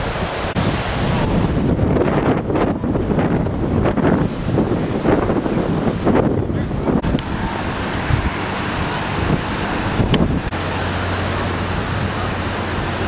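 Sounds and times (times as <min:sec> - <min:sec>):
wind noise on microphone: 0:00.0 - 0:13.0
voices: 0:00.6 - 0:13.0.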